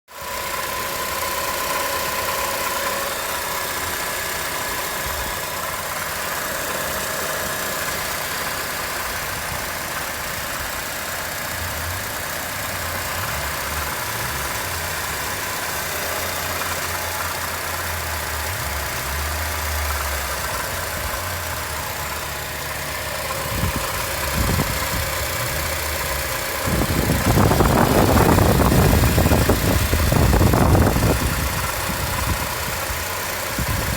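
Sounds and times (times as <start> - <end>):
car engine idling with rattle: 0.1 - 33.9.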